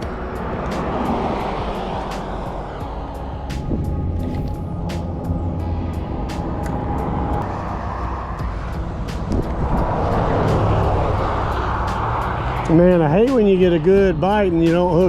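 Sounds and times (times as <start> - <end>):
low traffic rumble: 0.0 - 15.0
vehicle passing close: 0.0 - 15.0.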